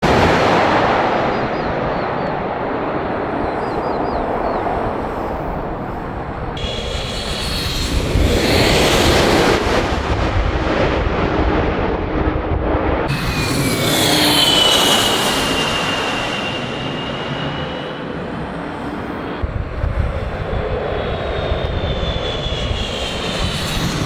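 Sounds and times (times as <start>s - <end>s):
airplane engine rumble: 0.0s - 24.0s
high whine: 0.0s - 24.0s.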